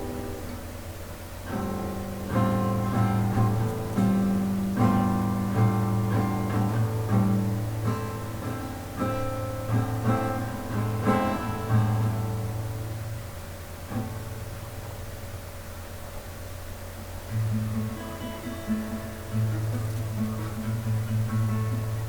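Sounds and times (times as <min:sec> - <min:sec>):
acoustic guitar music: 0:00.0 - 0:22.0.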